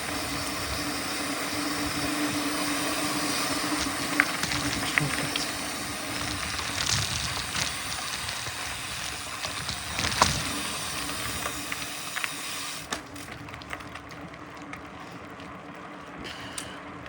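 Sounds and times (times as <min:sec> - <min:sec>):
bike knocking and rattling: 0:00.0 - 0:16.8
bike tyre noise: 0:00.0 - 0:17.0.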